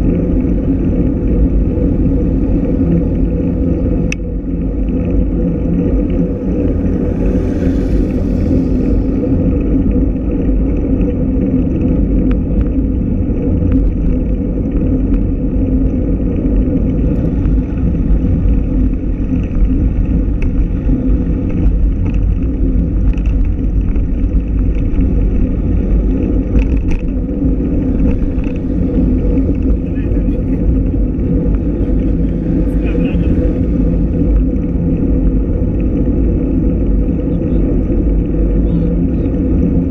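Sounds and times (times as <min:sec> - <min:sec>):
tyres rumbling on road: 0:00.0 - 0:39.9
wind noise on microphone: 0:00.0 - 0:39.9.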